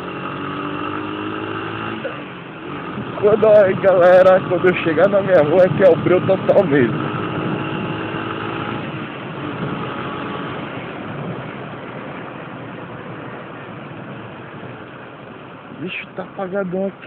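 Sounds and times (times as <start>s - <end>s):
motorcycle engine running: 0.0s - 15.7s
wind and road rush: 0.0s - 17.0s.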